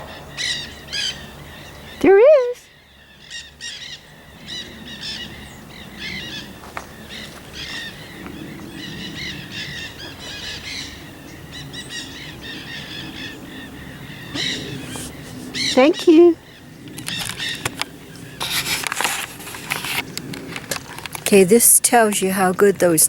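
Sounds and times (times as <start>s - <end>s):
parakeets calling shrill chirps: 0.0s - 18.9s.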